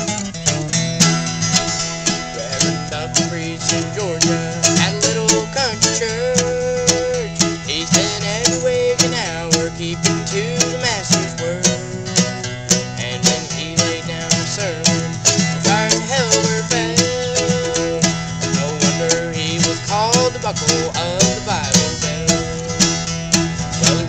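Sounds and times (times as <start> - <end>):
acoustic guitar picking: 0.0 - 24.0
banjo picking: 0.0 - 24.0
sliding lead melody: 0.0 - 24.0.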